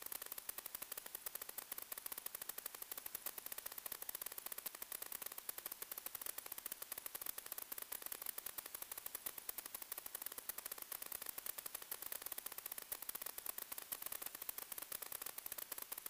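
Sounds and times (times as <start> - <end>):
rapid even crackle: 0.0 - 16.0.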